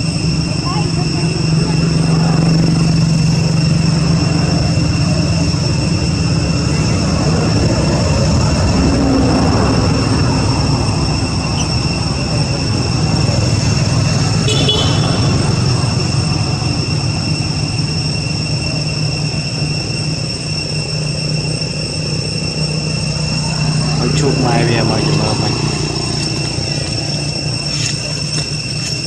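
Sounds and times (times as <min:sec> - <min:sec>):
high whines: 0:00.0 - 0:29.0
loud rumbling noise: 0:00.0 - 0:29.0.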